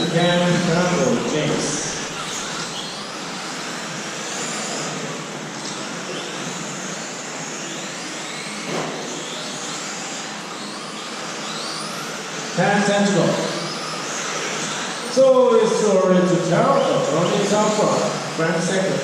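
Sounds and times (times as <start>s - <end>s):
rc truck motors whining: 0.0s - 19.0s.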